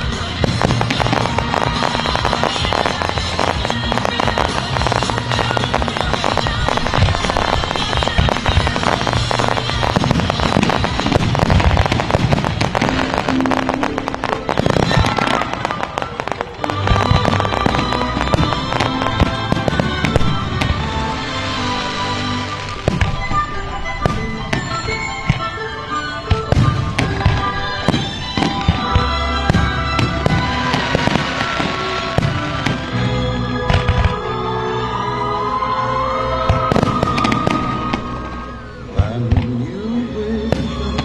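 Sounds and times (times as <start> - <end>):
fireworks bursting and crackling: 0.0 - 34.4, 36.4 - 39.6
music: 0.0 - 41.0.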